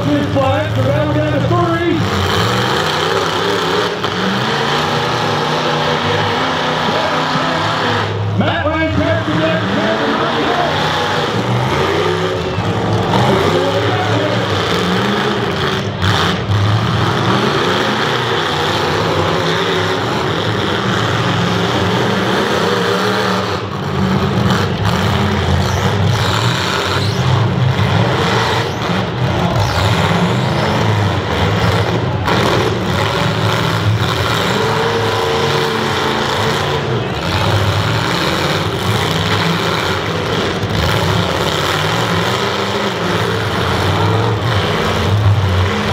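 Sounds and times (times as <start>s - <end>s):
engines revving unevenly: 0.0s - 45.9s.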